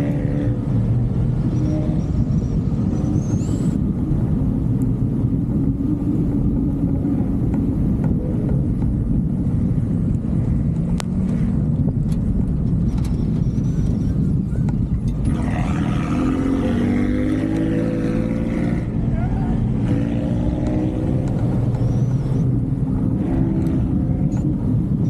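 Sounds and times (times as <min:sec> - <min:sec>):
vehicle engine rumbling: 0:00.0 - 0:25.0.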